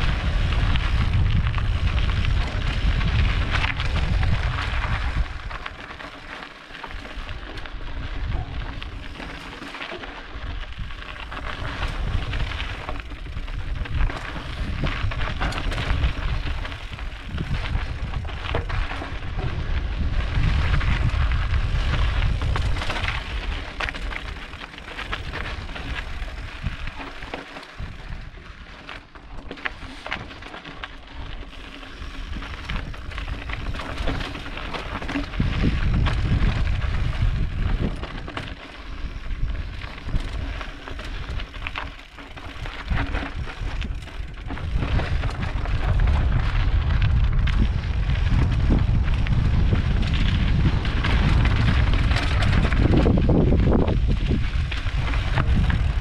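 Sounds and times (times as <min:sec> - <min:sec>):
bike tyres crunching on gravel: 0:00.0 - 0:56.0
wind rumble on microphone: 0:00.0 - 0:56.0.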